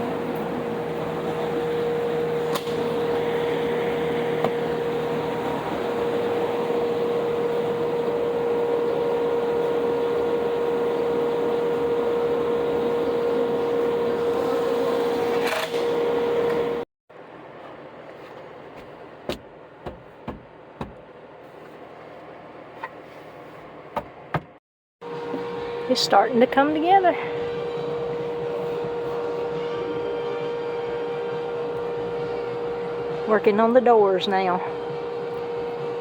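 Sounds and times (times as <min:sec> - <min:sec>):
machine hum with whine: 0:00.0 - 0:19.9, 0:20.5 - 0:36.0.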